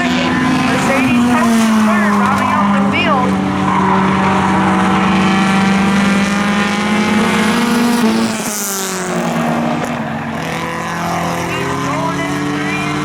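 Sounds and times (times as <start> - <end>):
race car engines droning: 0.0 - 13.0
race car passing: 0.0 - 13.0.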